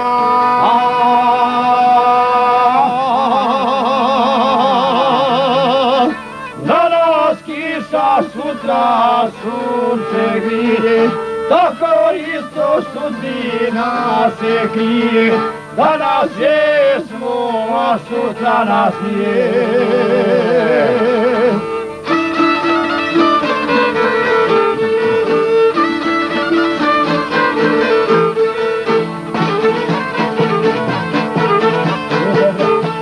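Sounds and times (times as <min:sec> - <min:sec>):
man singing with vibrato: 0:00.0 - 0:28.9
stringed instrument accompaniment: 0:00.0 - 0:33.0.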